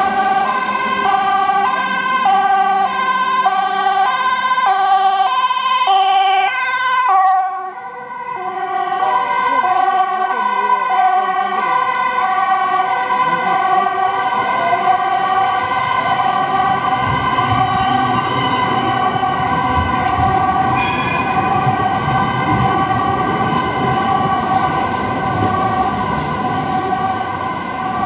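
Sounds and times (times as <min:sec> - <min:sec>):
two-tone ambulance siren: 0:00.0 - 0:28.0.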